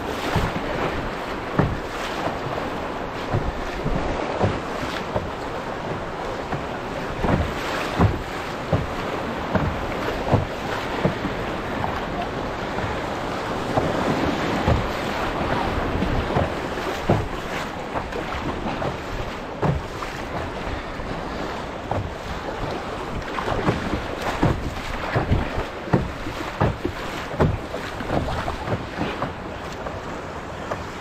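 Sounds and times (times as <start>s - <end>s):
paddle splashes and knocks: 0.0s - 31.0s
river water rushing: 0.0s - 31.0s.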